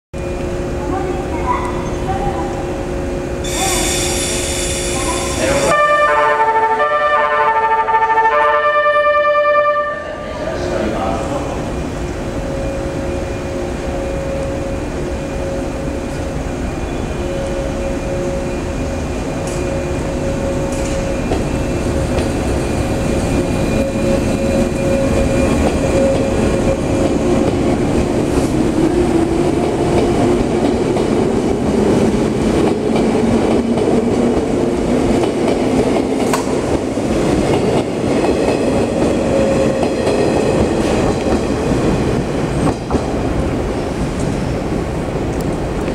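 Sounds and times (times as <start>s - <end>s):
electric train departing: 0.2s - 45.9s.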